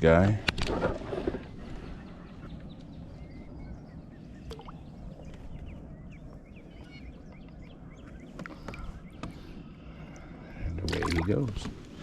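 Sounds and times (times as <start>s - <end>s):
low rumble of air and water: 0.0s - 12.0s
small birds chirping: 1.5s - 12.0s.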